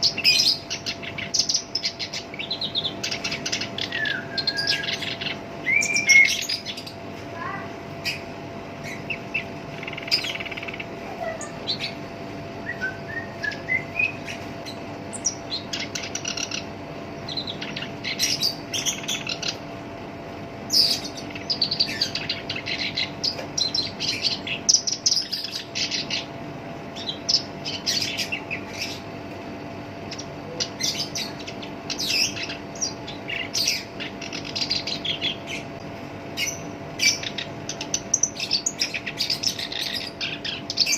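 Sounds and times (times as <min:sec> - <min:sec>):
reed warbler singing: 0:00.0 - 0:07.1, 0:08.0 - 0:12.0, 0:12.6 - 0:19.8, 0:20.7 - 0:29.2, 0:30.0 - 0:35.8, 0:36.4 - 0:40.9.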